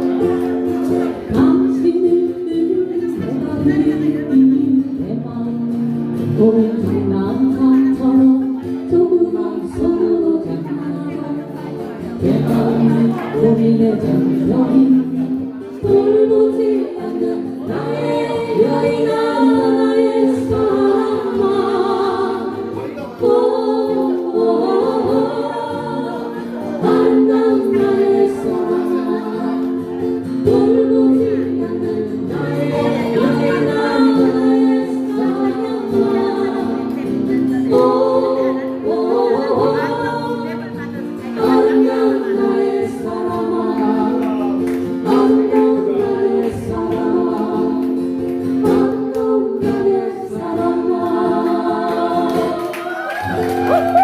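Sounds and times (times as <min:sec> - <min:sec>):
person singing melody: 0:00.0 - 0:54.0.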